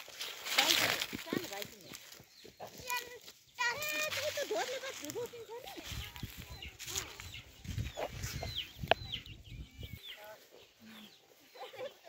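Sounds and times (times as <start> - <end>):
chickens clucking and chirping: 1.4 - 12.0.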